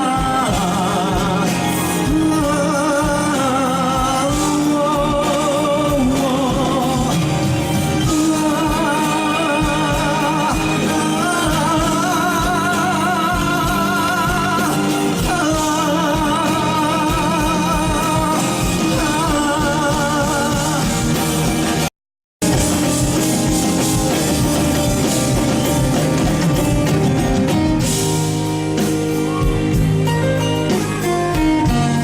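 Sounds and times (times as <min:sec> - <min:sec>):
live band with guitar and drums: 0:00.0 - 0:32.0.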